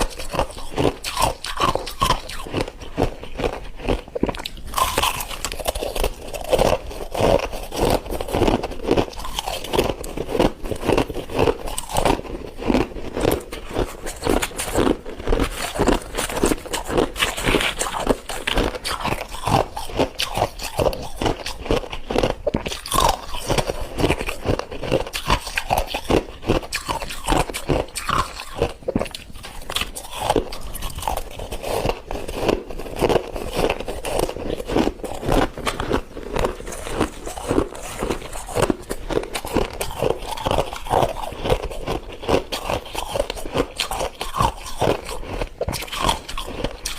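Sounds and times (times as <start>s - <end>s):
frost being chewed crunching: 0.0s - 46.9s.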